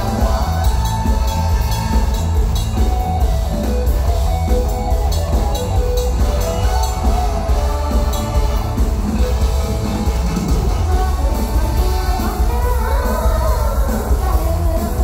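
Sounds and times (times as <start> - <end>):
drum kit cymbal beat: 0.0 - 15.0
heavy bass: 0.0 - 15.0.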